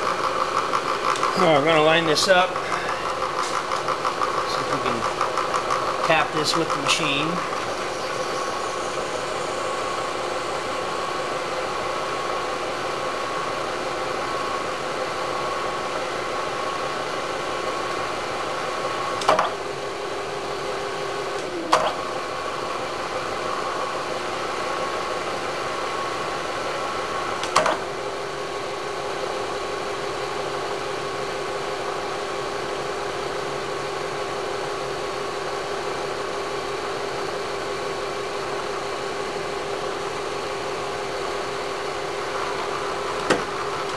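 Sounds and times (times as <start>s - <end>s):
milling machine spindle whine: 0.0s - 43.9s.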